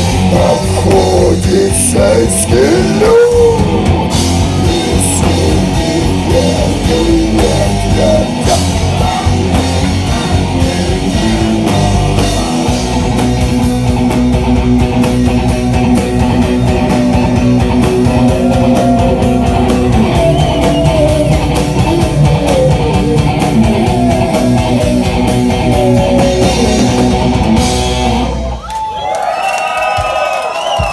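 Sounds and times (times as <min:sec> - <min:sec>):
heavy rock instrumental: 0:00.0 - 0:28.6.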